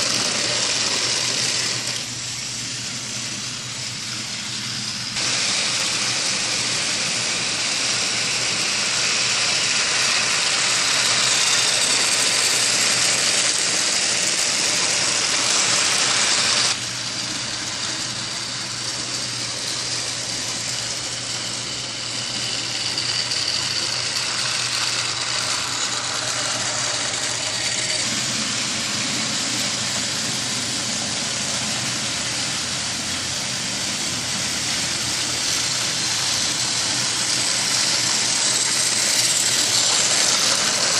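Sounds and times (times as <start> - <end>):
toy train motor whirring: 0.0 - 40.9.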